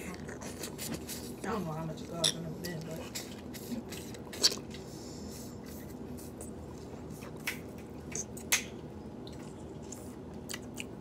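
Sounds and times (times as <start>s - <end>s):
wet squishy eating sounds: 0.0s - 11.0s.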